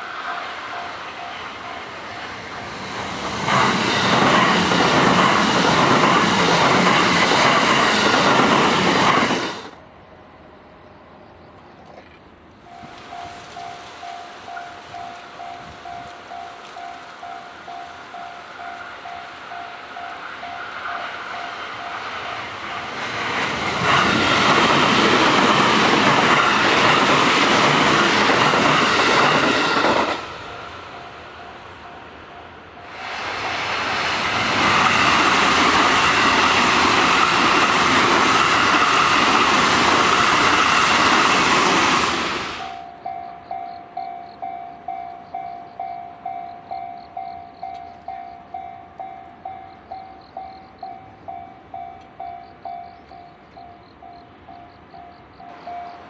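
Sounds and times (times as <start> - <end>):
electric train passing at speed: 0.0 - 56.0.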